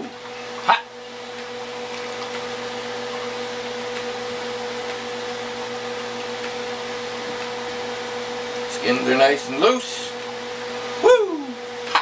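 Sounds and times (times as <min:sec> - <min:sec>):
electric motor hum: 0:00.0 - 0:12.0
fan whirring hiss: 0:00.0 - 0:12.0.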